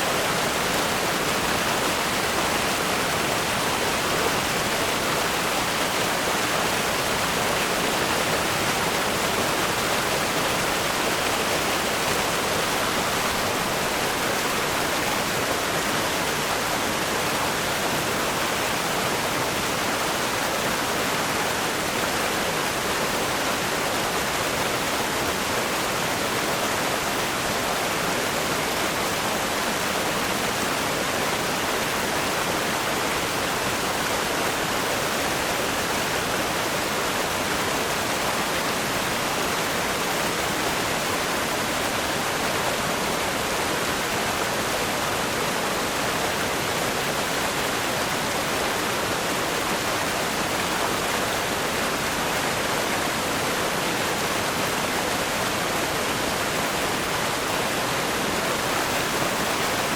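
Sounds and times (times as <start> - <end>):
river rapids rushing over rocks: 0.0 - 59.9.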